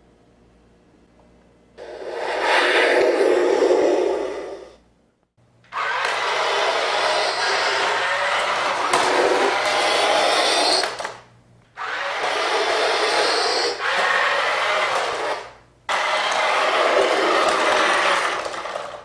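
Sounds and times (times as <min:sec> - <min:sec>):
toy jet whirring: 0:01.8 - 0:04.7, 0:05.7 - 0:11.2, 0:11.8 - 0:19.0.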